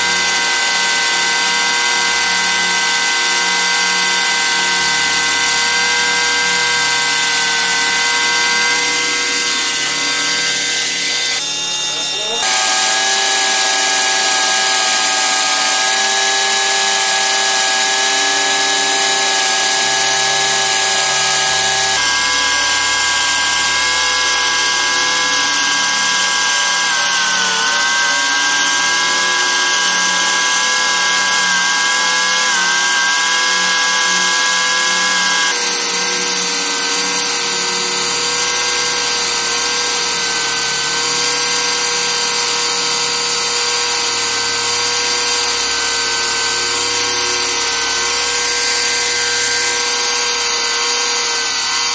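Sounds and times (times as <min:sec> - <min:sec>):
angle grinder grinding steel: 0:00.0 - 0:51.9.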